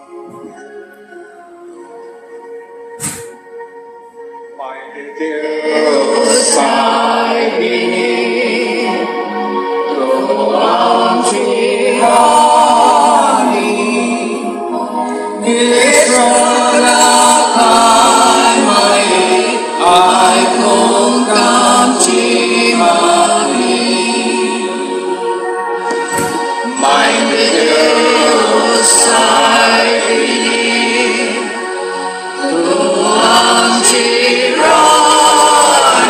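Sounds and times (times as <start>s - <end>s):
church choir singing a hymn: 4.9s - 36.0s.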